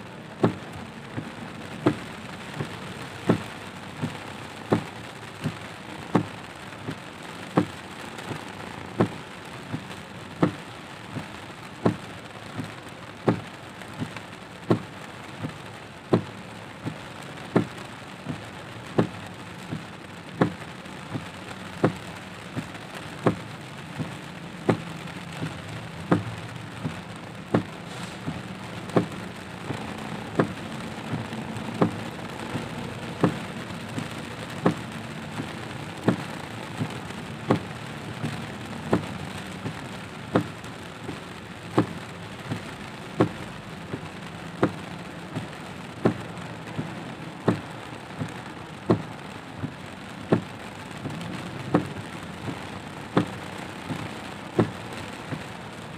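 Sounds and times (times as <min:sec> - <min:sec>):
heavy rain on car roof: 0:00.0 - 0:55.9
low engine hum: 0:00.0 - 0:55.9
windshield wipers knocking: 0:00.2 - 0:55.8.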